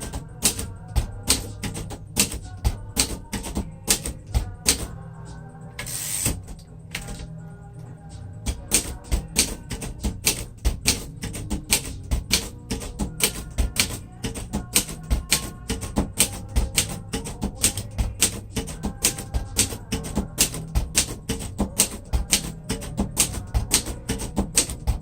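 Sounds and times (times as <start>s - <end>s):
typewriter being typed on: 0.0s - 5.0s, 5.8s - 7.3s, 8.5s - 25.0s.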